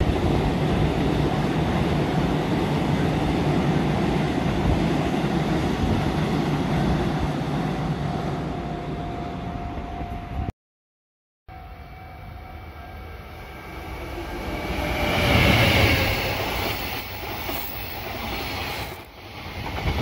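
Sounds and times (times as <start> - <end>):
train passing at speed: 0.0 - 10.5, 11.5 - 20.0.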